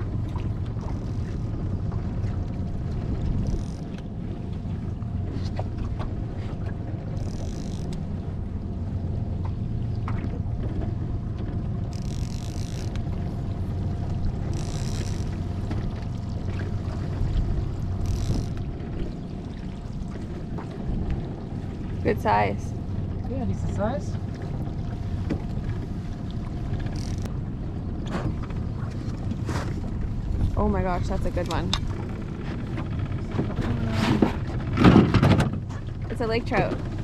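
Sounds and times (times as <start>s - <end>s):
boat motor humming: 0.0s - 37.0s.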